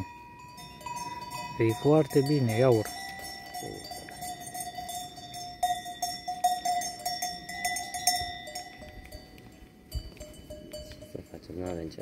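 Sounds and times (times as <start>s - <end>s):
sheep bells clinking and ringing: 0.0s - 12.0s.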